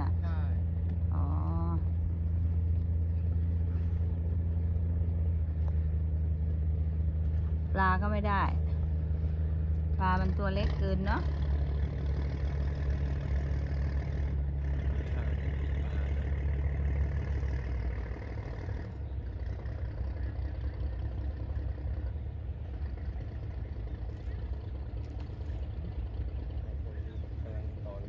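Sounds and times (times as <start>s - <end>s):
engine idling drone: 0.0s - 28.0s.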